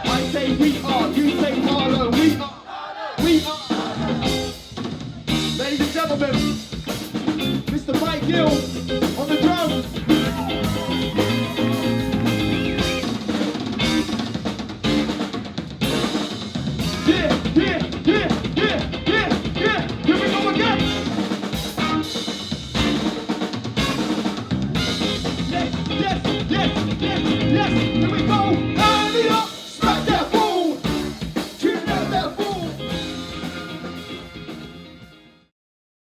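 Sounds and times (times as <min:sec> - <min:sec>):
bass drum: 0:00.0 - 0:02.4, 0:03.2 - 0:23.2, 0:23.8 - 0:34.7
live band music: 0:00.0 - 0:02.6, 0:03.2 - 0:35.5.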